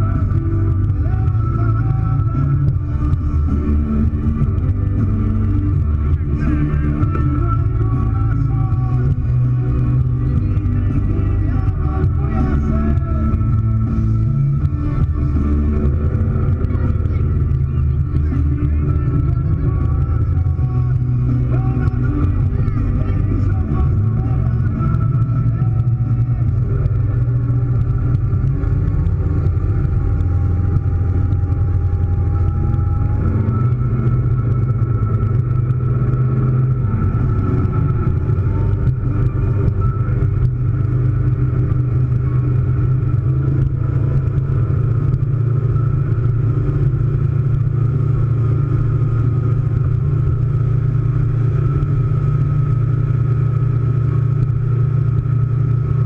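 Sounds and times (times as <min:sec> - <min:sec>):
powerboat engine drone: 0:00.0 - 0:56.0.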